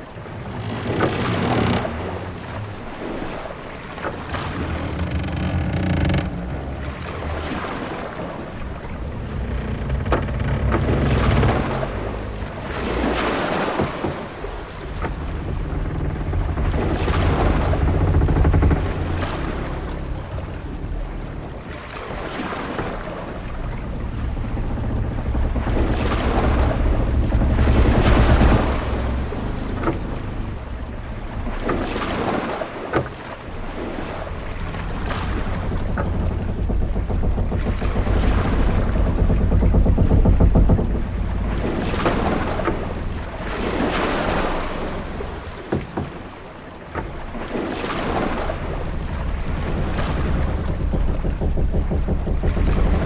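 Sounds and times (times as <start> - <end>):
low wind rumble: 0.0 - 53.0
waves washing against a hull: 0.0 - 53.0
faint short knocks: 4.0 - 53.0.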